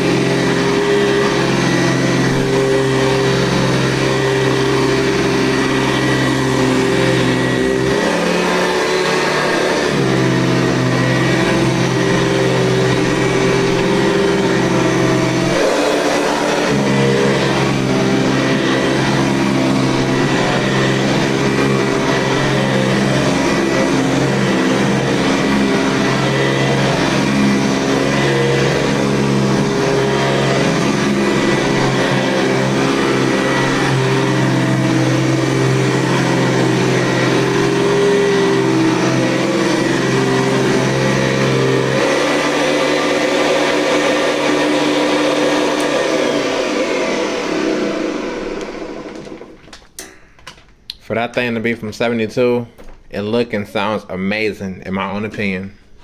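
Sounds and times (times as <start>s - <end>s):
vacuum cleaner motor whine: 0.0s - 50.0s.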